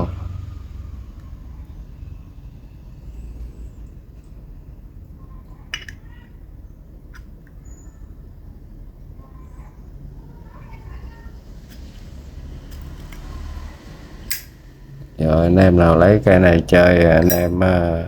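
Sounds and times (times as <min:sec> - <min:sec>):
background traffic rumble: 0:00.0 - 0:18.0.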